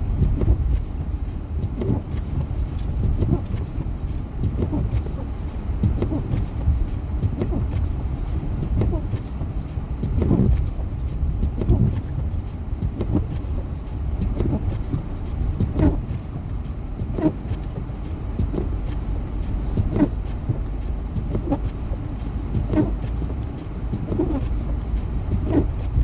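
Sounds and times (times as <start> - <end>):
vehicle driving rumble: 0.0 - 26.0
windshield wipers thumping and squeaking: 0.0 - 26.0.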